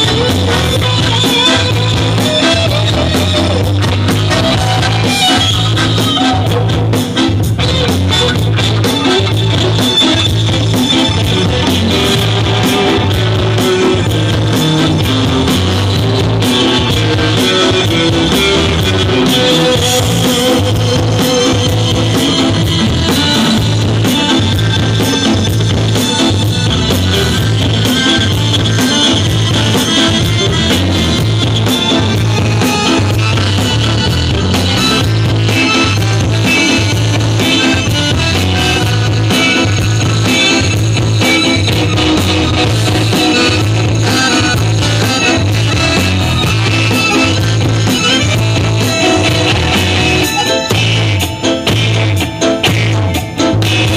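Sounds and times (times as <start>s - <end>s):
bass line: 0.0s - 53.9s
drums: 0.0s - 53.9s
electric guitar: 0.0s - 53.9s.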